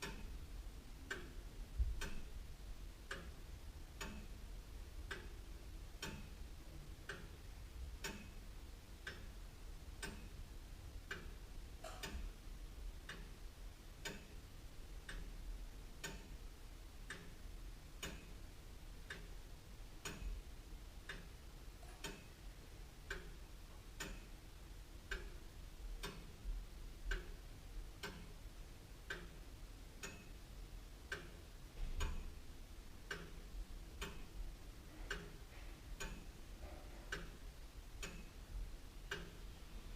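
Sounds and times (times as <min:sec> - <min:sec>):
clock ticking: 0:00.0 - 0:12.4, 0:13.0 - 0:39.6.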